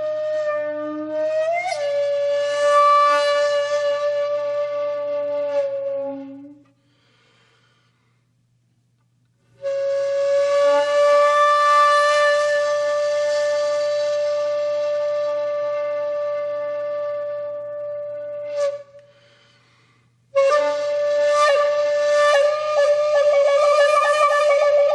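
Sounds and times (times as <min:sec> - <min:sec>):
flute-like held notes: 0:00.0 - 0:06.9, 0:09.6 - 0:19.7, 0:20.3 - 0:24.9.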